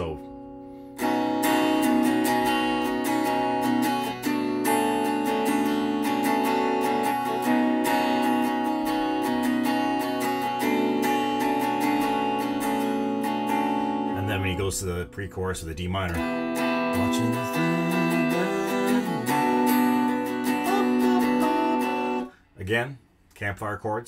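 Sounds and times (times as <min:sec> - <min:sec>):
electric guitar strumming: 0:00.0 - 0:22.7.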